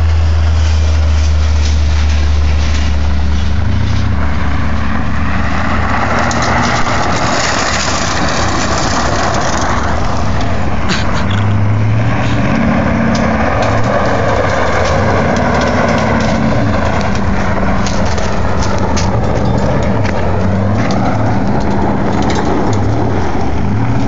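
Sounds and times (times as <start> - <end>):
car engine drone: 0.0 - 24.0
spinning tyres and flung gravel: 0.0 - 24.0.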